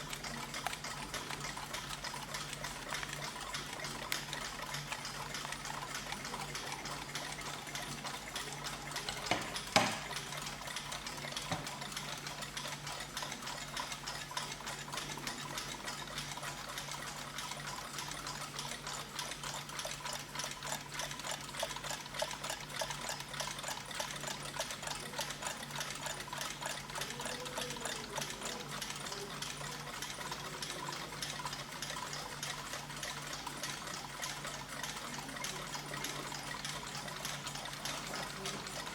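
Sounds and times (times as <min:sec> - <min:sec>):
many clocks ticking: 0:00.0 - 0:38.9.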